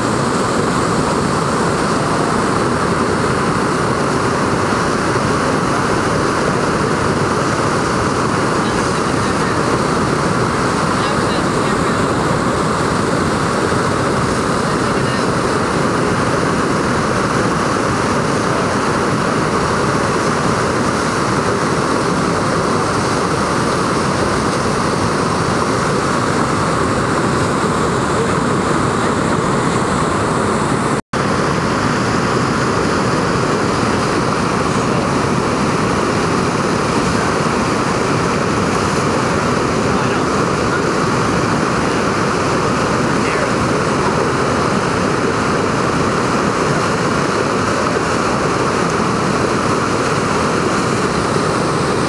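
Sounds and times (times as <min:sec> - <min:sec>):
whitewater rushing: 0:00.0 - 0:52.0.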